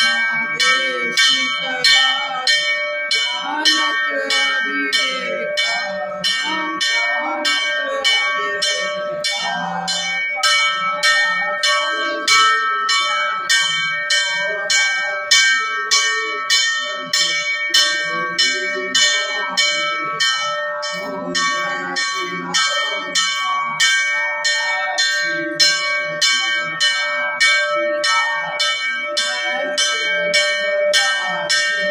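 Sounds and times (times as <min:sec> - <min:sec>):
temple bell rung rapidly: 0:00.0 - 0:31.9.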